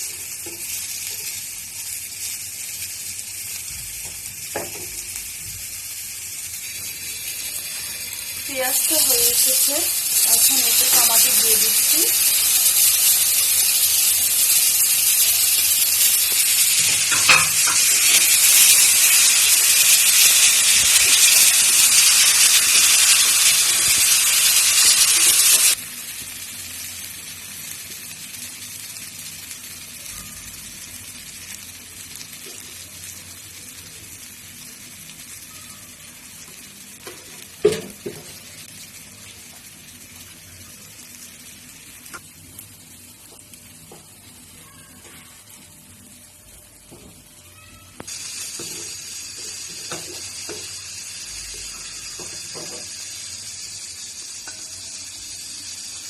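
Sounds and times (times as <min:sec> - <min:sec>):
food sizzling in oil: 0:00.0 - 0:56.0.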